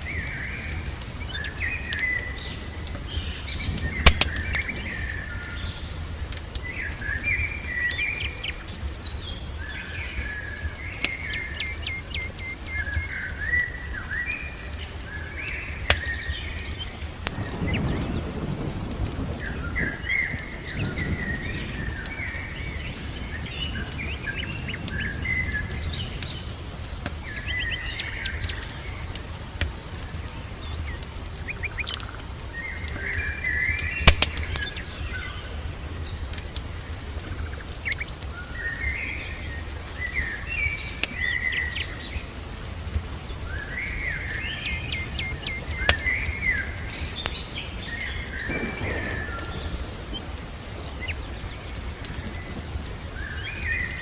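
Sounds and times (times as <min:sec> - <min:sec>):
sharp cracks: 0:00.0 - 0:07.3, 0:09.6 - 0:54.0
songbird singing: 0:00.0 - 0:54.0.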